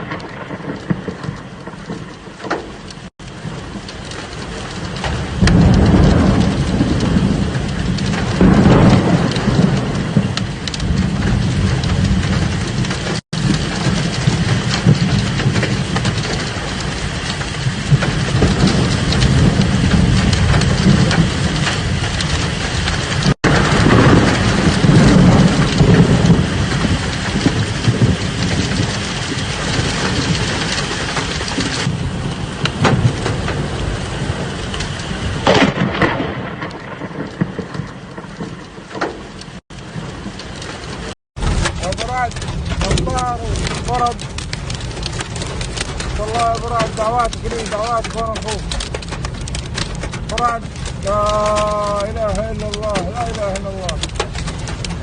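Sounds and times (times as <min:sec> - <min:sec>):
rolls of thunder: 0:00.0 - 0:02.8, 0:03.4 - 0:55.0
heavy rain falling: 0:00.0 - 0:55.0.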